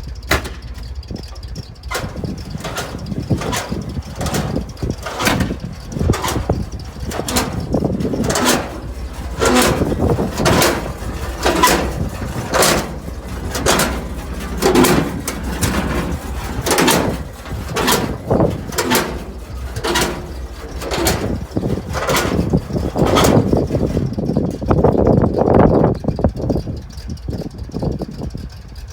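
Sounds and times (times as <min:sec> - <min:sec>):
engine knocks and rattles: 0:00.0 - 0:28.9
truck engine rumbling: 0:00.0 - 0:28.9.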